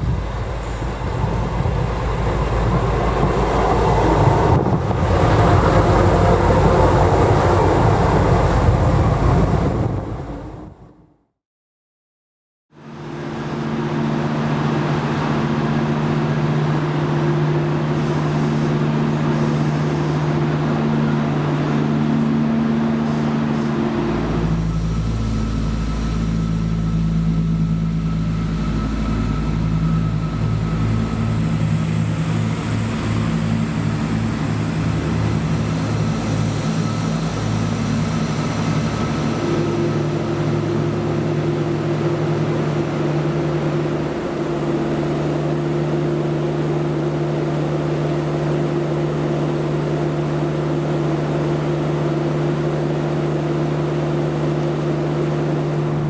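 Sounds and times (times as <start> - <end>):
diesel engines idling hum: 0.0 - 10.8, 12.8 - 56.0
diesel train engine rumbling: 0.0 - 11.1, 12.8 - 56.0.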